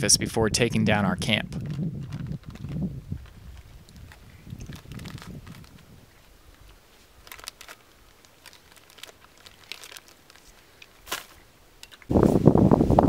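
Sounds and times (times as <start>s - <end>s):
sleeping bag crinkling rustle: 1.6s - 12.4s.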